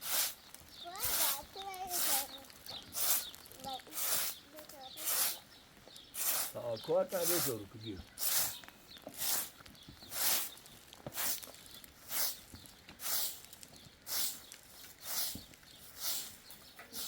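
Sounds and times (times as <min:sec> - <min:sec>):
broom sweeping ground: 0:00.0 - 0:17.0.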